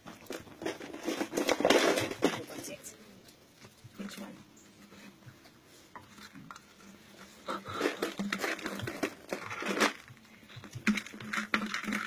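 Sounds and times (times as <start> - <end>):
plastic bottles crinkling and clattering: 0.0 - 12.0.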